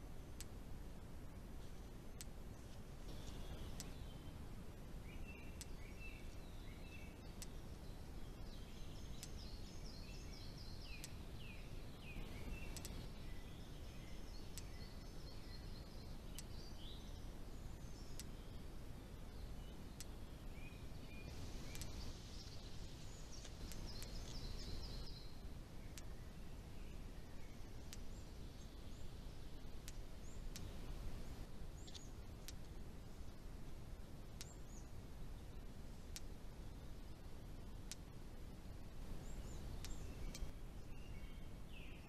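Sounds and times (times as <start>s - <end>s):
low outdoor background noise: 0.0s - 42.0s
small birds singing: 0.0s - 42.0s
faint sharp clicks: 0.2s - 18.7s, 19.3s - 25.2s, 25.8s - 40.6s.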